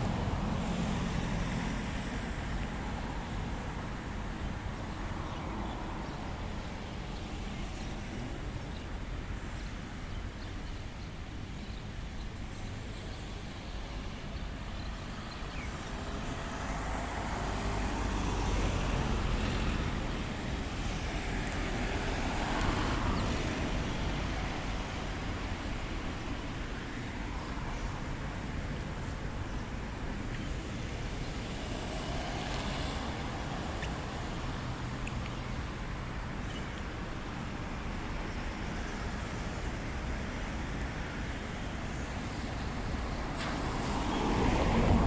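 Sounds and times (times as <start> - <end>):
road traffic passing: 0.0 - 45.0.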